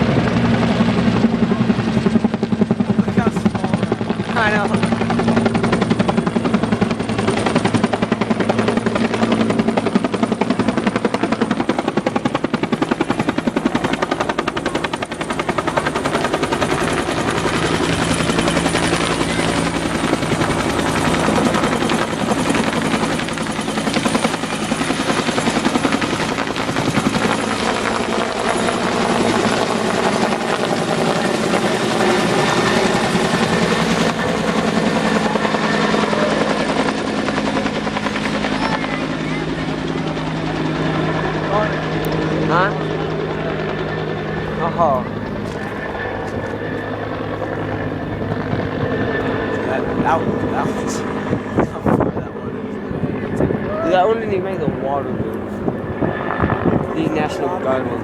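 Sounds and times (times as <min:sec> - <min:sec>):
engine drone: 0:00.0 - 0:09.9, 0:13.4 - 0:58.0
helicopter rotor chop: 0:00.0 - 0:58.0.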